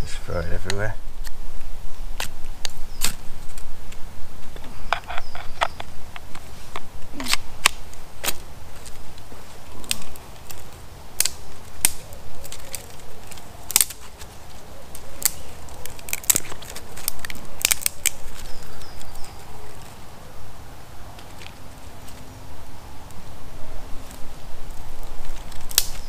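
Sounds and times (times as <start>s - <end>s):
twig fire crackling and popping: 0.0s - 26.0s.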